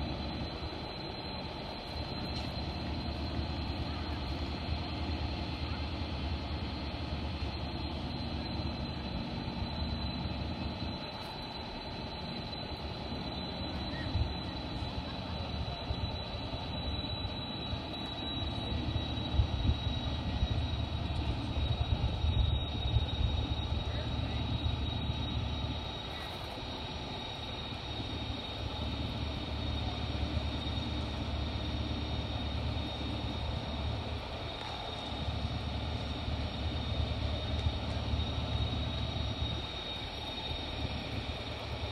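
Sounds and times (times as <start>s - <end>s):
diesel locomotive rumbling: 0.0s - 41.9s
high steady whine: 0.0s - 41.9s.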